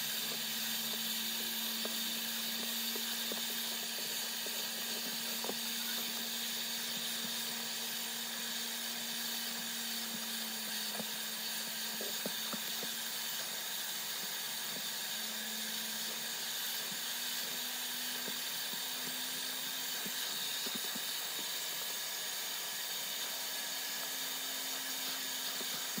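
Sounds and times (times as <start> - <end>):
carpet extractor motor humming: 0.0 - 26.0
suction hiss: 0.0 - 26.0.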